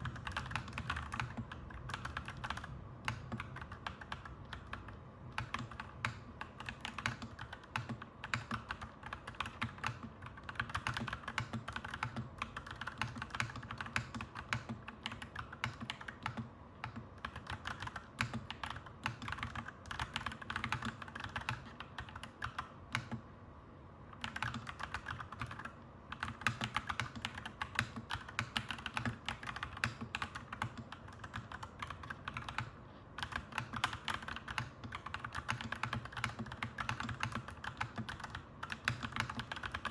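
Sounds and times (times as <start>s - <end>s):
mechanical keyboard typing: 0.0s - 23.2s, 24.1s - 39.9s.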